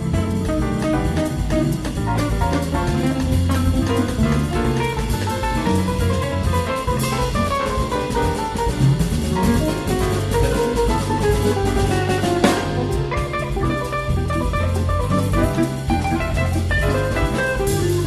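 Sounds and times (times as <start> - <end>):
bass: 0.0 - 18.0
drum kit: 0.0 - 18.0
electric guitar melody: 0.0 - 18.0
piano: 0.0 - 18.0.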